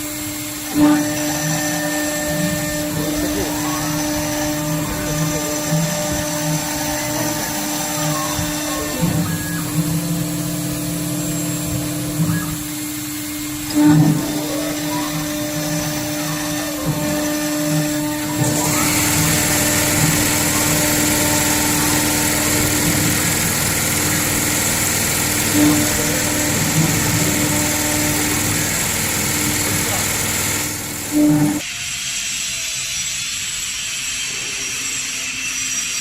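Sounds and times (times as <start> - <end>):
high hiss: 0.0 - 36.0
router spindle whine: 0.0 - 36.0.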